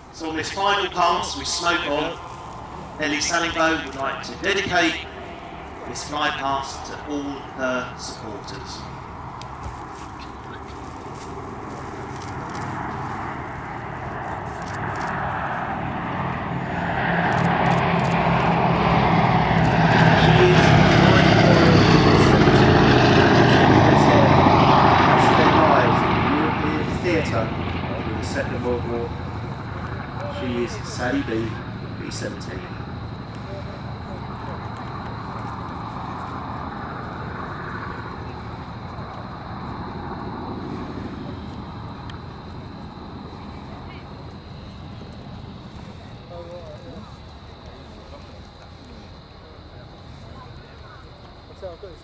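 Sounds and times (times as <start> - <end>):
propeller plane engines droning: 0.0 - 52.0.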